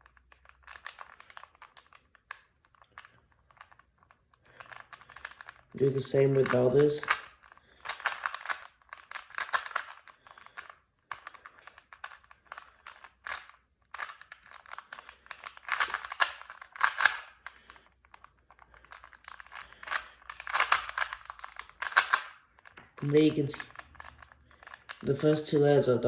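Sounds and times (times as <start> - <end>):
puzzle cube layers clicking: 0.0 - 25.7.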